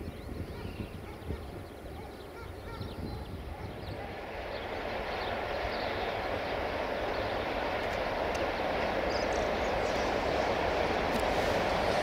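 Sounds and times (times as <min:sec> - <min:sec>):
freight train approaching: 0:00.0 - 0:12.0.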